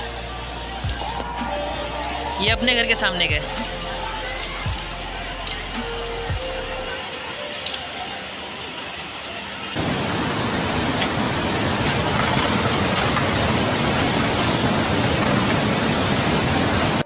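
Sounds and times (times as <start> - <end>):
water rushing loudly: 0.0 - 17.0.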